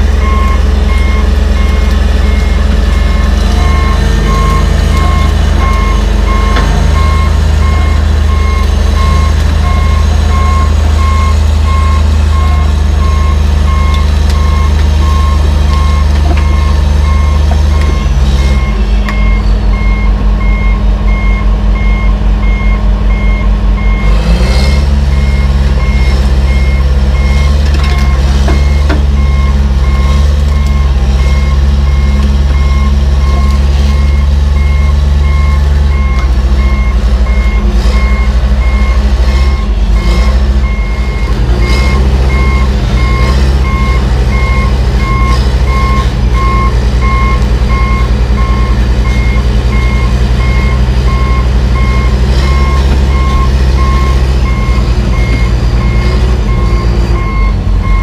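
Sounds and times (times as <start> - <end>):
diesel engine running: 0.0 - 58.0
backup alarm beeping: 0.2 - 24.2, 25.1 - 58.0.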